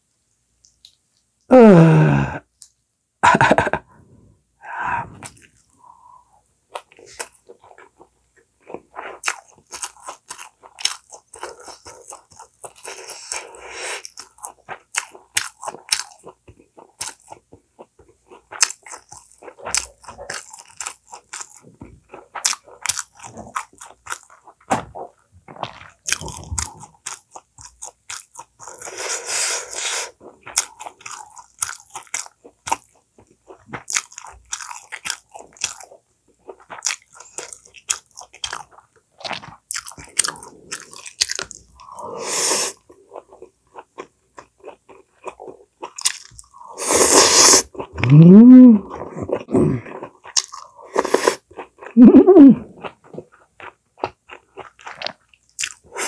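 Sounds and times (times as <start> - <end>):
person crunching food: 6.7 - 56.0.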